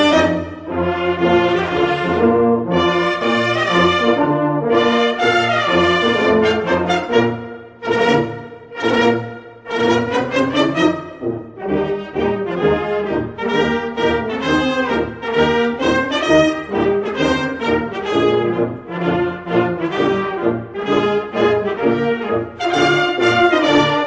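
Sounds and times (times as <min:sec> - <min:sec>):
orchestral music with brass melody: 0:00.0 - 0:24.0.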